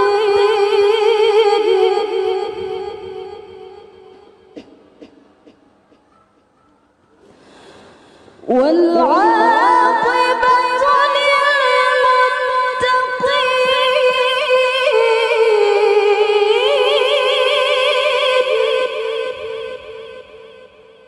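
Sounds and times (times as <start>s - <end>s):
woman reciting in melismatic chant: 0.0s - 5.7s, 8.4s - 21.0s.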